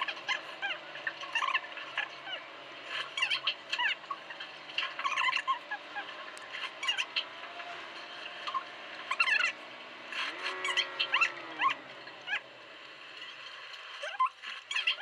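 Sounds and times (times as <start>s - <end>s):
sped-up engine and road hum: 0.0s - 15.0s.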